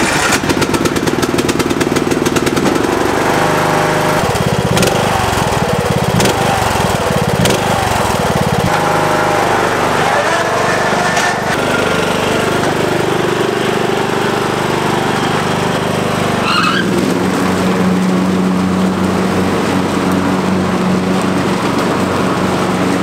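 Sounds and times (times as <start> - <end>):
lawn tractor engine running: 0.0 - 23.0.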